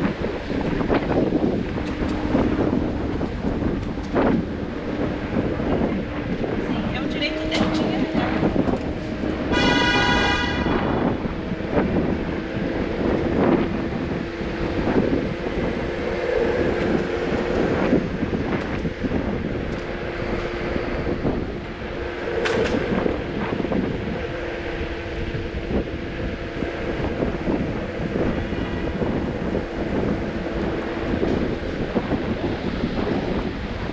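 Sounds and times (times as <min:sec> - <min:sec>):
road rumble: 0:00.0 - 0:33.9
wind buffeting microphone: 0:00.0 - 0:33.9.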